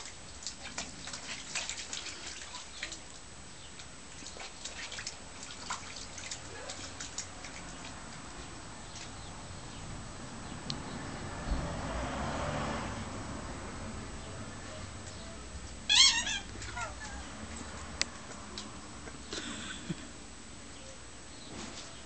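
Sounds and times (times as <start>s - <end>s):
water splashing and dripping: 0.0s - 14.0s, 14.9s - 19.4s.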